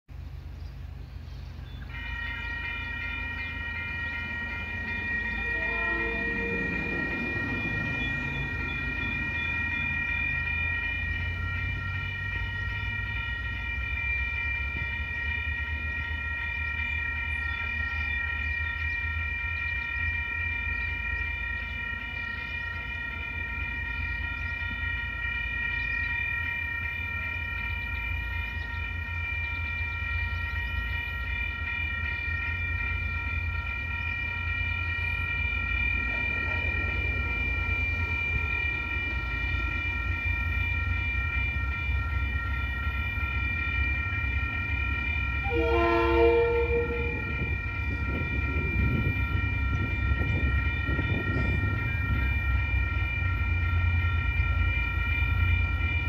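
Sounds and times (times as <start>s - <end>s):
level crossing warning bells: 0.1s - 56.0s.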